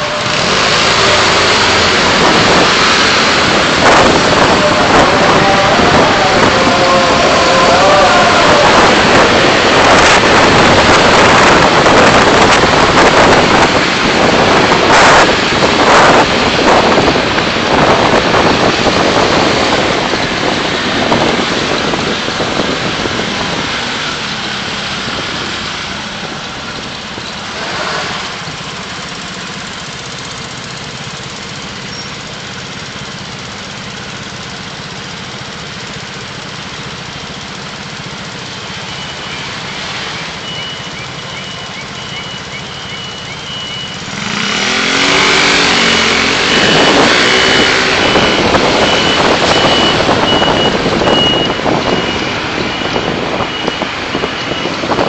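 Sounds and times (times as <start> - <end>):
car engine hum: 0.0 - 55.0
car road noise: 0.0 - 55.0.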